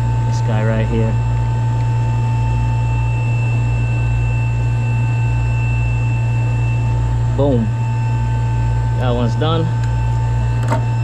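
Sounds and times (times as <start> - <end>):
machinery motors droning: 0.0 - 11.0
whining tones: 0.0 - 11.0.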